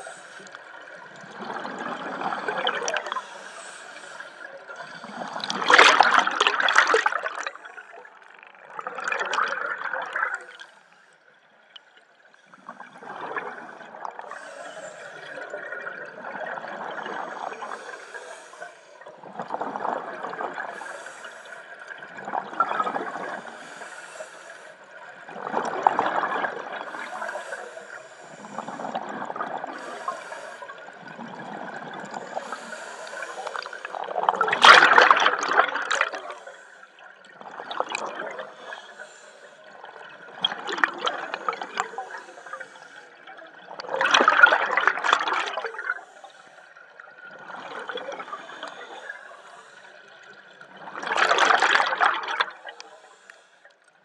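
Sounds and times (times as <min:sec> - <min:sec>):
underwater exhaled air bubbling: 0:00.0 - 0:10.7, 0:11.7 - 0:53.4.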